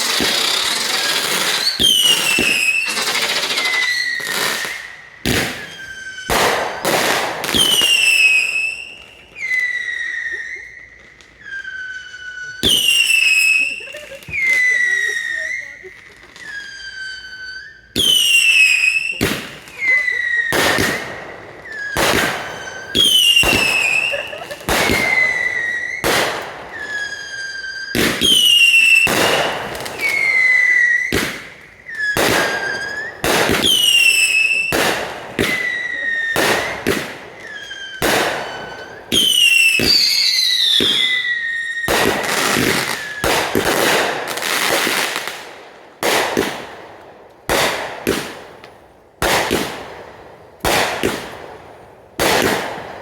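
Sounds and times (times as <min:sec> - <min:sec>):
firework whistles falling in pitch: 0:00.0 - 0:45.3
firework bangs: 0:00.0 - 0:53.0.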